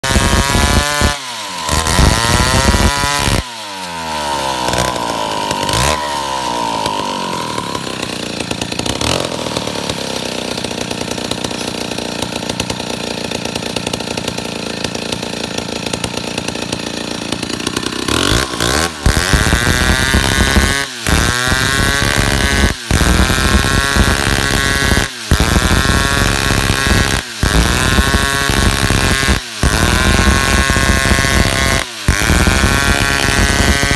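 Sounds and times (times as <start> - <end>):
chainsaw cutting log: 0.0 - 33.9.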